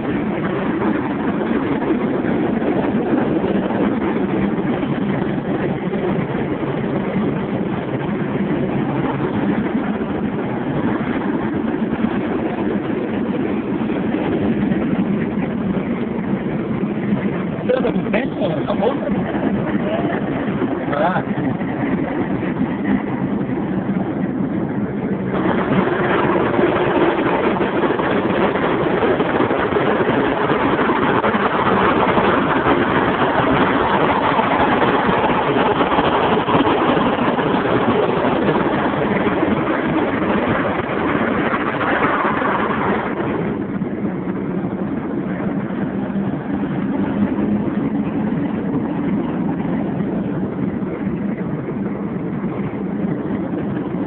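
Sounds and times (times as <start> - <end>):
car engine drone: 0.0 - 54.0
rush of wind and road noise: 0.0 - 54.0.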